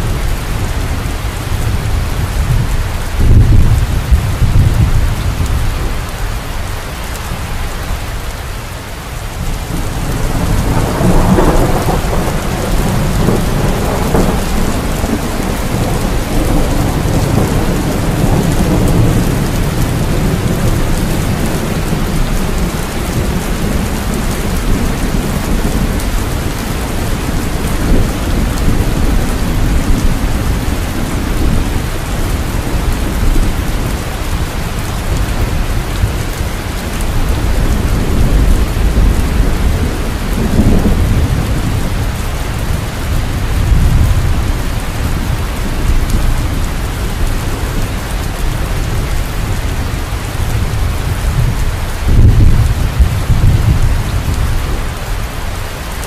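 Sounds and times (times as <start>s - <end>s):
thunder rumbling: 0.0s - 6.2s, 9.3s - 56.0s
heavy rain: 0.0s - 56.0s.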